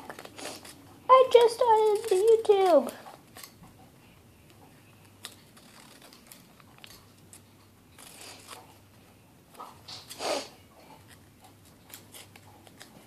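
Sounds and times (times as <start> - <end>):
scissors cutting paper: 0.0 - 3.6, 5.0 - 8.8, 9.8 - 13.0.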